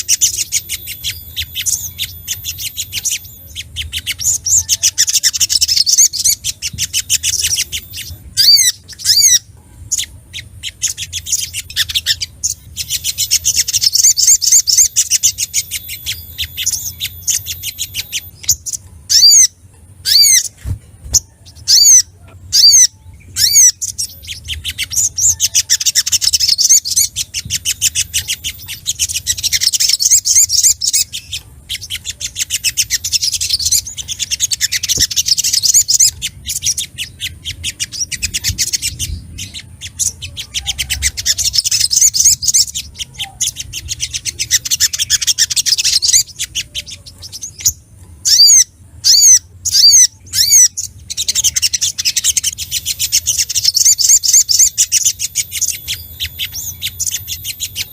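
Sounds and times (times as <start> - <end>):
bird rapid high chips: 0.0 - 57.9
sharp bird calls: 0.0 - 57.9.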